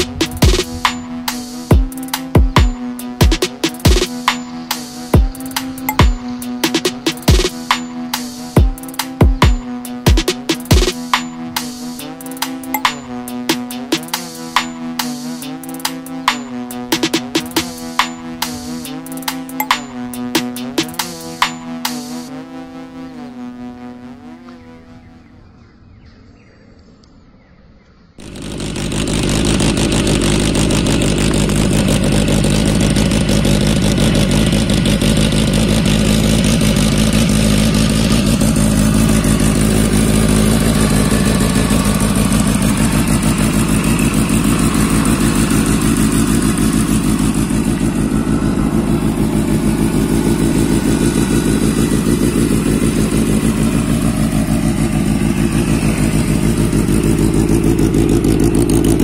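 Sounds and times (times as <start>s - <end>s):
motorcycle engine running: 0.0s - 25.6s, 28.2s - 59.0s.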